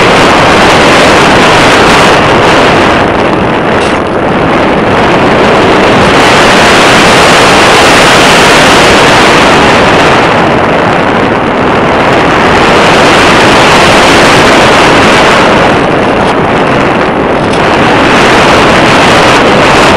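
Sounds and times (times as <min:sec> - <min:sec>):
wind rushing over microphone: 0:00.0 - 0:19.9.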